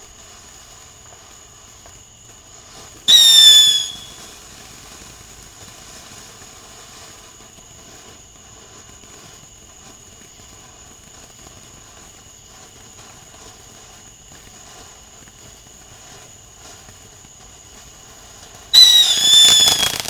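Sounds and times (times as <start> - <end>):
firework whistle: 0.0 - 20.0.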